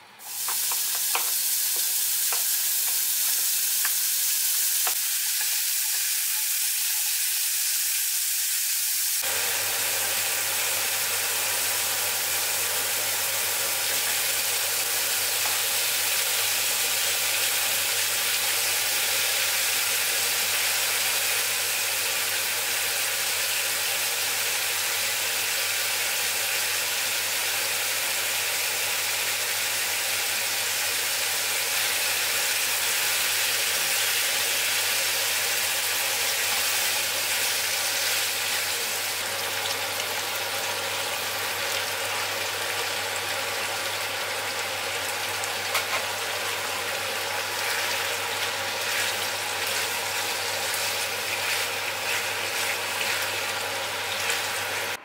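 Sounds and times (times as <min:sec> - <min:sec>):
meat sizzling in a frying pan: 0:00.2 - 0:55.0.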